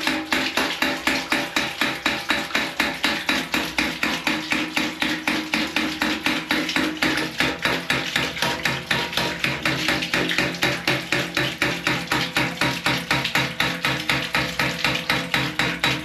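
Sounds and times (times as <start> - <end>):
water spurting: 0.0 - 16.0.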